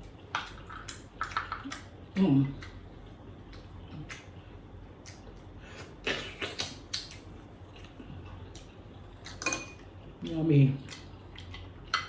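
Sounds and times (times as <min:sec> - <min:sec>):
noisy eating sounds: 0:00.0 - 0:12.0
room background noise: 0:00.0 - 0:12.0.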